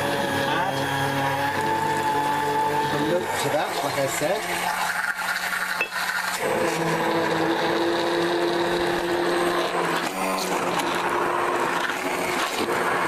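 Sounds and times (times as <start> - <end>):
stick blender motor whine: 0.0 - 13.0.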